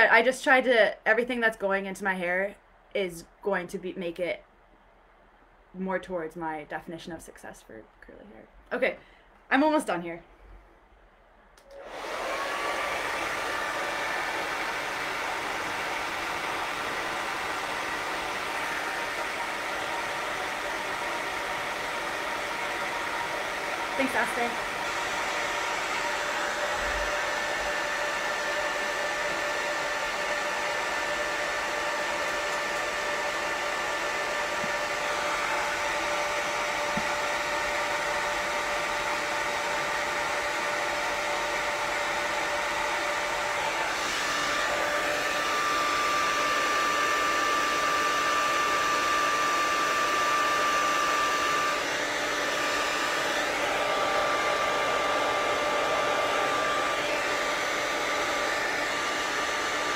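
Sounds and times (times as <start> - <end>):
hair dryer blowing: 11.6 - 59.9.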